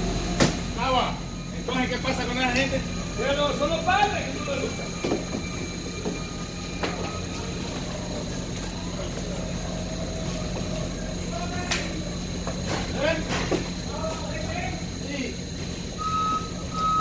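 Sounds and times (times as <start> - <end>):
faint high whine: 0.0 - 17.0
warehouse machinery hum: 0.0 - 17.0.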